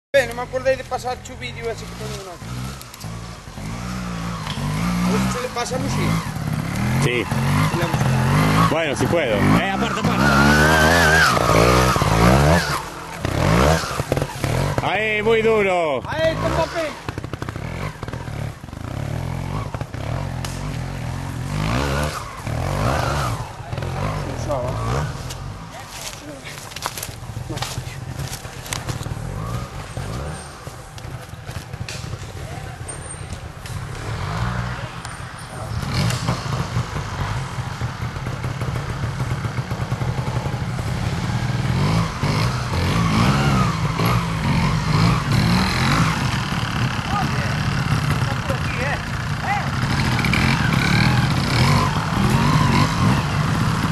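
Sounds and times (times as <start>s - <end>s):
motorcycle engine revving: 0.2s - 53.9s.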